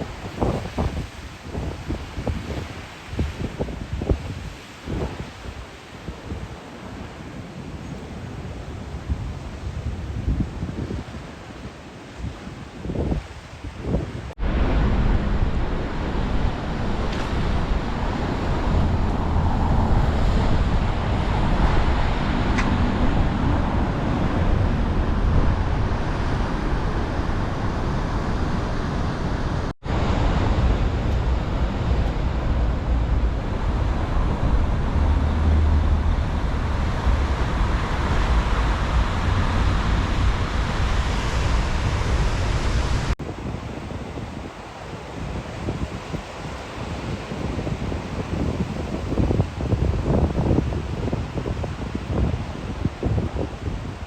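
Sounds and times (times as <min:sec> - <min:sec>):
rough ocean surf: 0:00.0 - 0:54.0
wind buffeting microphone: 0:00.0 - 0:54.0.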